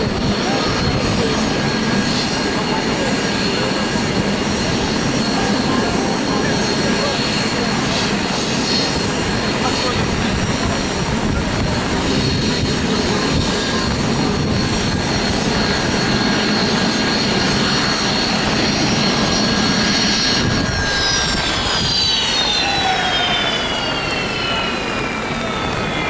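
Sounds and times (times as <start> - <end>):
jet engine running: 0.0 - 26.0.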